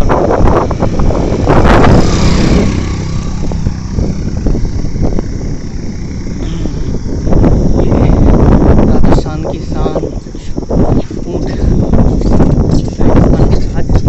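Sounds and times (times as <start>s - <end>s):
road traffic: 0.0s - 13.3s
wind buffeting microphone: 0.0s - 14.0s.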